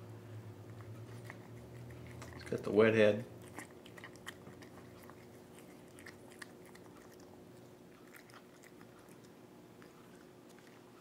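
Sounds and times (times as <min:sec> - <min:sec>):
cat crunching kibble: 0:00.6 - 0:11.0.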